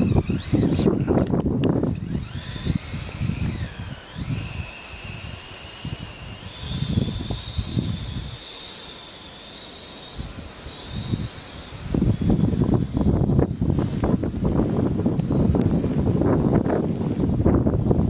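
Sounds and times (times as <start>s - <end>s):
high whine of electric motors: 0.0s - 18.0s.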